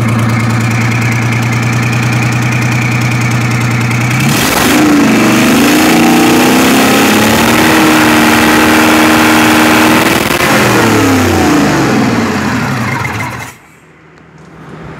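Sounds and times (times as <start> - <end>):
diesel engine running and shutting off: 0.0 - 14.9.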